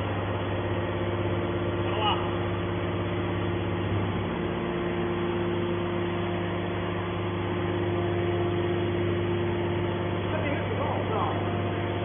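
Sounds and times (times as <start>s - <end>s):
hydraulic machine humming: 0.0s - 12.0s.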